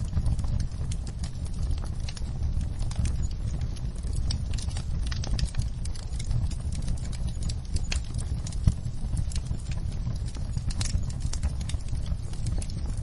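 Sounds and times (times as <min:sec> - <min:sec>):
low rumble of fire: 0:00.0 - 0:13.0
wood logs crackling and popping: 0:00.0 - 0:13.0.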